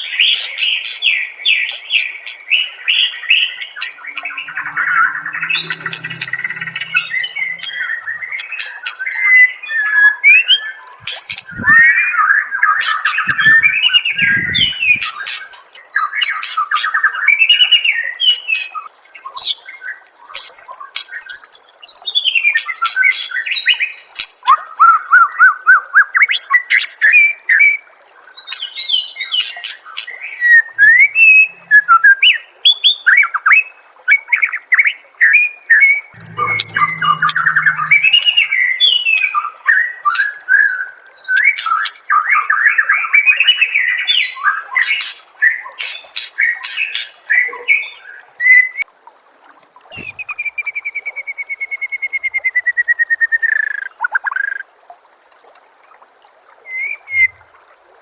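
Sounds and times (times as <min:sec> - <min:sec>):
bird song with trills and whistles: 0:00.0 - 0:27.7, 0:28.4 - 0:33.6, 0:34.2 - 0:48.8, 0:49.9 - 0:54.6, 0:56.7 - 0:57.4.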